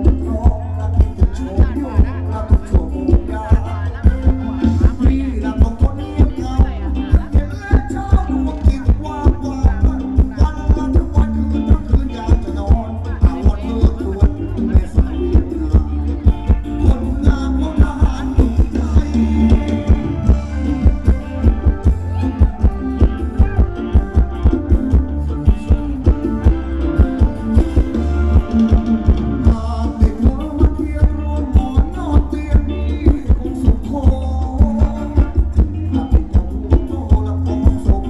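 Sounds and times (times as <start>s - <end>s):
live band dance music: 0.0s - 38.0s
person singing: 0.0s - 38.0s.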